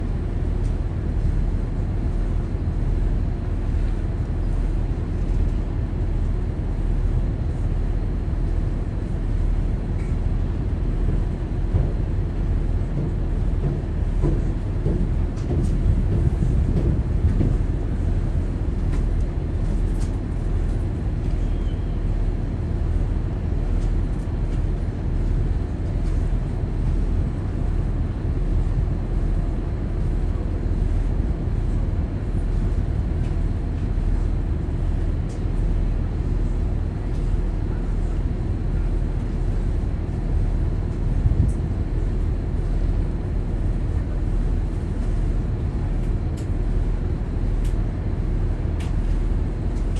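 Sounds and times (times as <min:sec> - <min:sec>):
ferry engines rumbling: 0:00.0 - 0:49.9.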